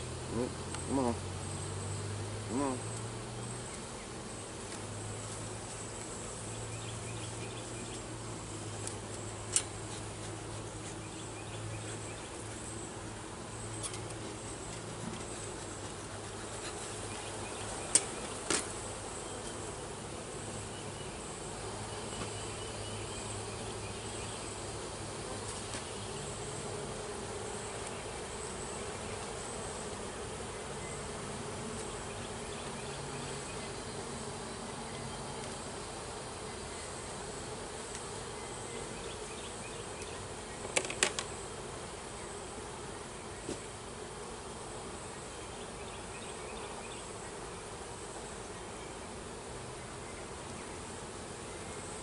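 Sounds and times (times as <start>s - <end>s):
bees buzzing: 0.0s - 52.0s.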